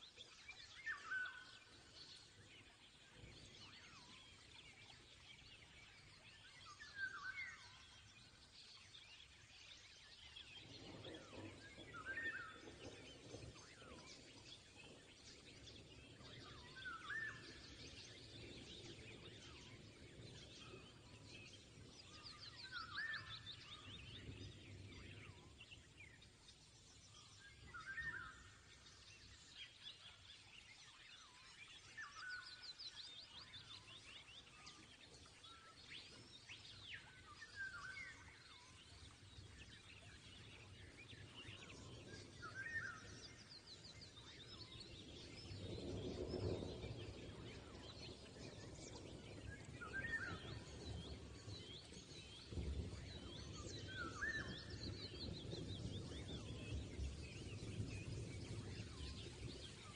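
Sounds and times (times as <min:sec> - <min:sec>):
faint bird chirps and trills: 0:00.0 - 0:59.9.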